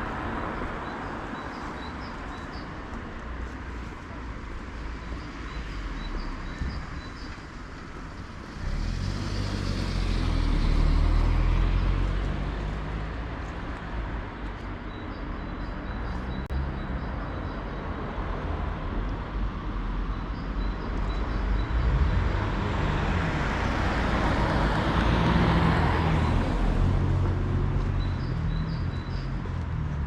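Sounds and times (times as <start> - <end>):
street traffic noise: 0.0 - 30.0.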